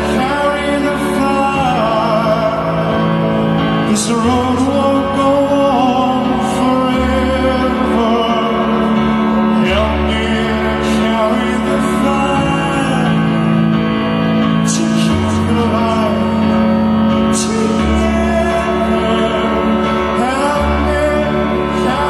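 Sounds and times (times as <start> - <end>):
man singing: 0.0 - 22.0
rock band playing: 0.0 - 22.0.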